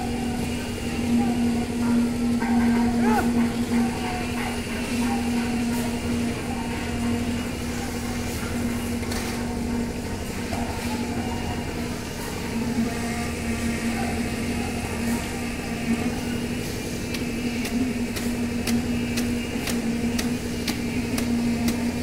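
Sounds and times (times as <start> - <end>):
machine motor humming: 3.3 - 22.0.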